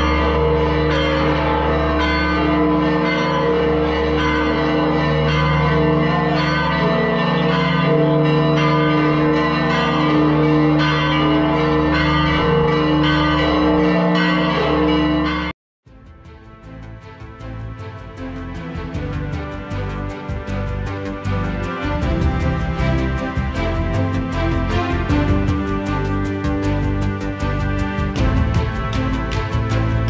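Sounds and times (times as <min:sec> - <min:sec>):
church bells pealing: 0:00.0 - 0:15.5, 0:17.2 - 0:30.0.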